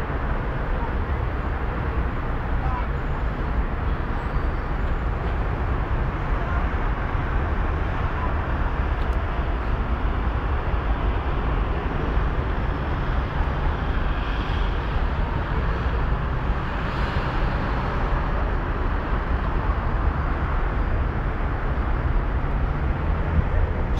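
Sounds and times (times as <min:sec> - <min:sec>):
distant road traffic: 0:00.0 - 0:23.9.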